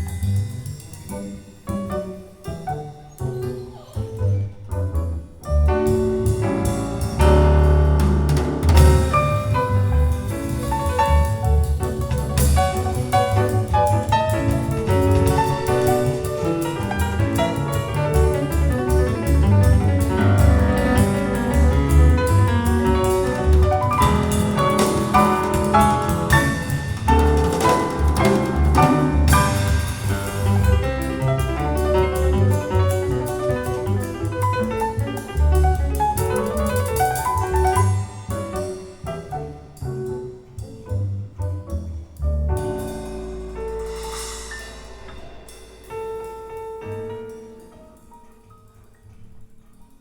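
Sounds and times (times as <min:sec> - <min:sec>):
jazz piano and double bass: 0:00.0 - 0:50.0.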